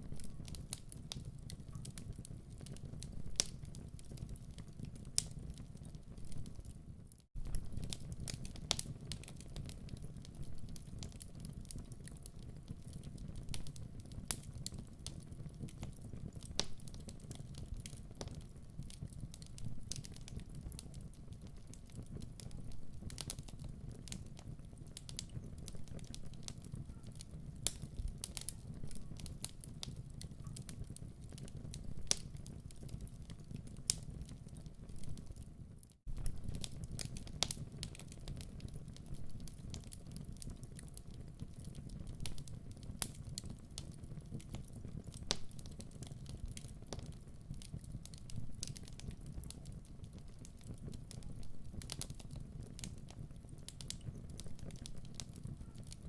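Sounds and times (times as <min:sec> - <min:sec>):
wood fire crackling: 0:00.0 - 0:56.0
sharp pops of fire: 0:07.3 - 0:35.4, 0:36.0 - 0:56.0.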